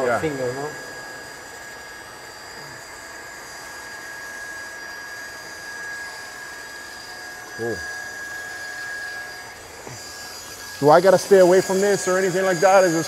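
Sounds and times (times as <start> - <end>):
electric blower whirring: 0.0 - 13.0.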